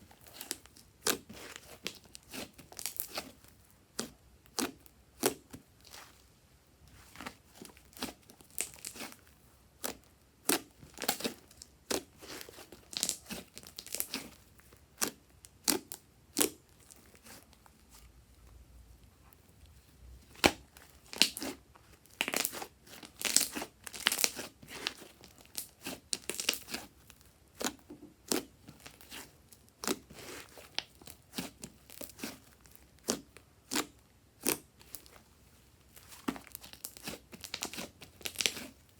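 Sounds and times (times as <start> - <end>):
slime squeezed with sticky crackles: 0.1 - 6.2, 7.0 - 18.0, 20.2 - 35.3, 35.9 - 38.9.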